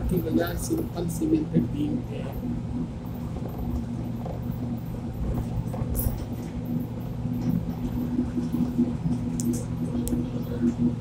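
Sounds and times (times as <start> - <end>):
constant humming tone: 0.0 - 11.0
monorail car rumbling: 0.0 - 11.0.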